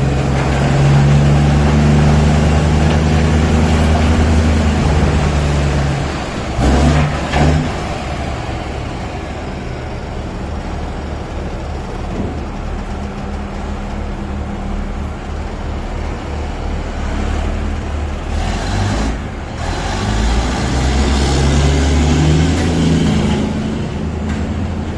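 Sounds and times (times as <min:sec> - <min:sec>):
dump truck diesel engine: 0:00.0 - 0:24.9.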